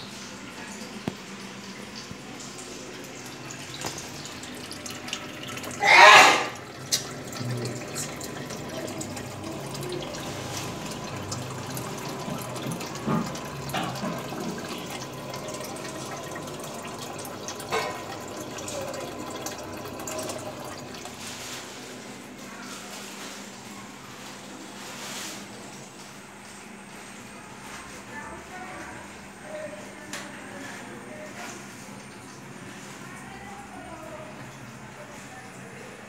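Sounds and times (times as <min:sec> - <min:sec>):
aquarium water trickling: 0:00.0 - 0:36.0.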